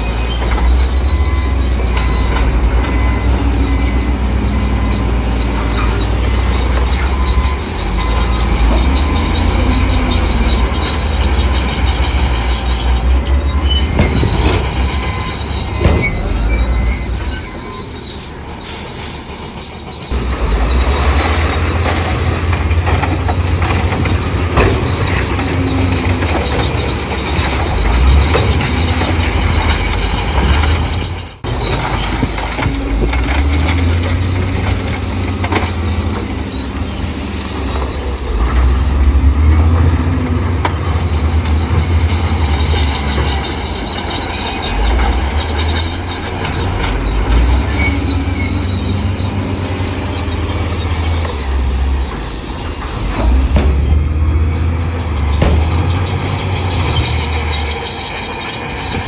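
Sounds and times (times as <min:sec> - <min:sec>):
bulldozer diesel engine under load: 0:00.0 - 0:59.0
steel tracks squealing and clanking: 0:00.0 - 0:59.0.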